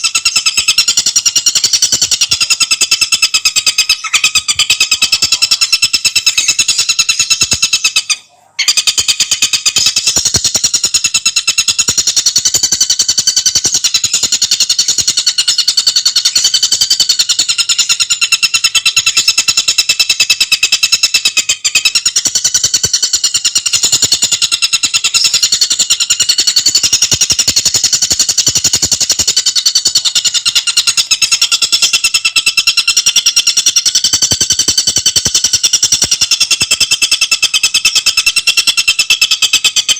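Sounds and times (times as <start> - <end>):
bird singing a shrill rattling trill: 0.0 - 39.9.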